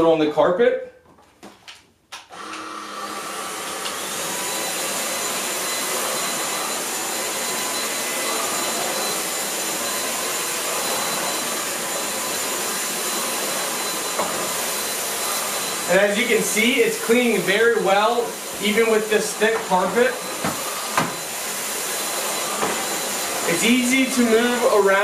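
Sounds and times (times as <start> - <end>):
vacuum cleaner motor whining: 2.3 - 25.0.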